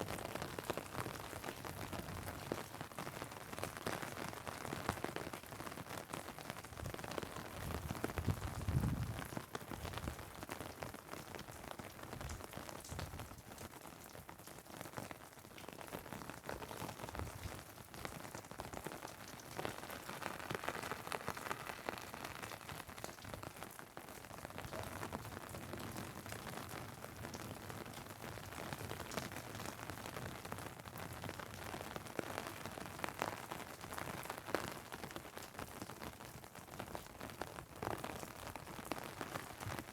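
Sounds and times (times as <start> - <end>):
rain on an umbrella: 0.0 - 39.9
rain on asphalt: 0.0 - 39.9.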